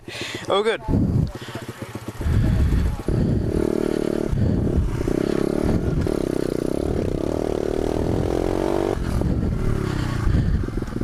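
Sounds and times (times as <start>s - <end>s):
motorbike engine running: 0.0s - 11.0s
wind rumble: 0.7s - 11.0s.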